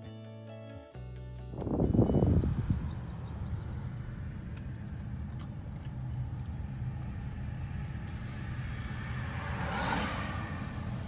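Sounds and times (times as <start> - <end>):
car engine and tyre rumble: 1.5 - 11.0
passing car rushing: 1.6 - 11.0.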